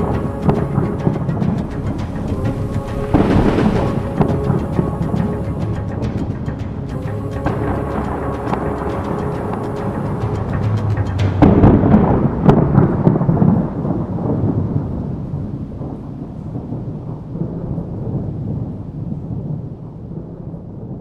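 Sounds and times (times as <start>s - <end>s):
thunder rumbling: 0.0s - 21.0s
thunderclap: 0.0s - 21.0s.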